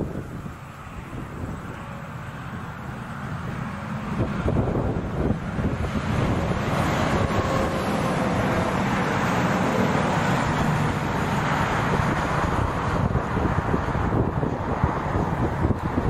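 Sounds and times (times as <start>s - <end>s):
heavy trucks passing: 0.0s - 16.0s.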